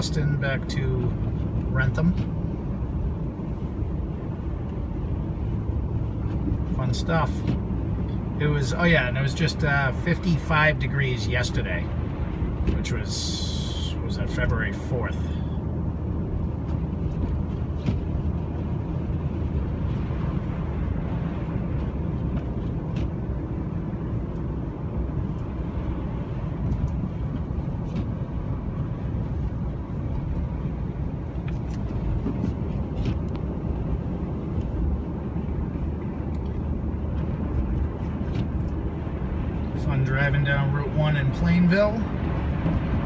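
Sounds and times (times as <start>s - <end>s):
car engine and tyre noise: 0.0s - 43.0s.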